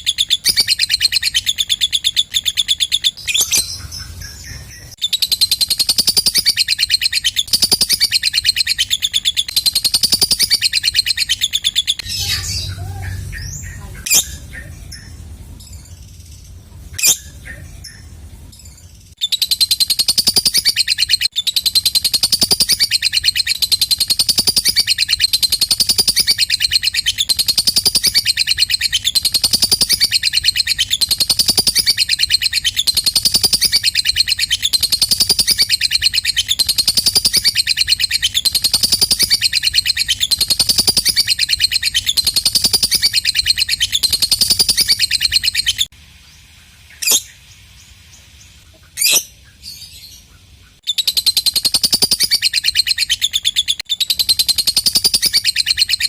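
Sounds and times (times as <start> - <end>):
lovebird chattering trill: 0.0 - 45.9, 48.7 - 56.0
sharp bird chirps: 0.0 - 45.9, 48.5 - 56.0.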